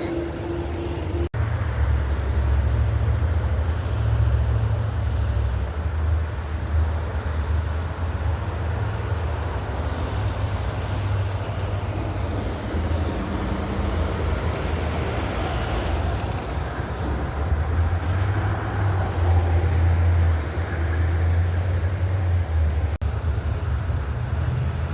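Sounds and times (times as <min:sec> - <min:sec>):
road noise: 0:00.0 - 0:24.9
truck engine rumble: 0:00.0 - 0:24.9.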